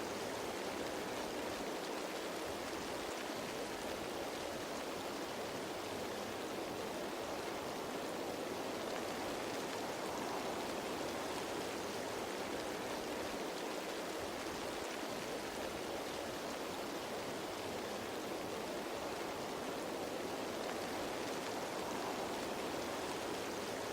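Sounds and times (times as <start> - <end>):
rain pattering on foliage: 0.0 - 23.9.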